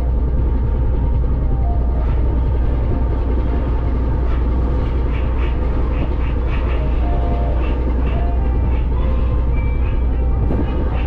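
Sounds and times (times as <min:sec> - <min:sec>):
ferry engine deep rumble: 0:00.0 - 0:11.0.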